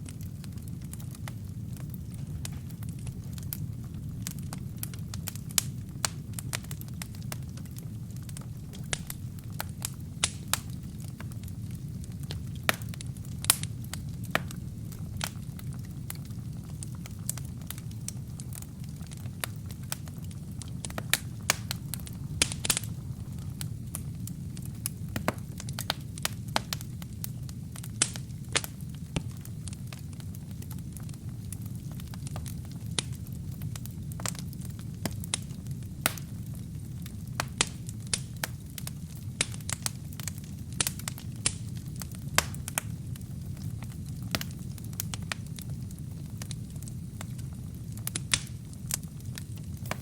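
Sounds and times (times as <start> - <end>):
fire rumbling: 0.0 - 50.0
wood popping and crackling: 0.0 - 50.0.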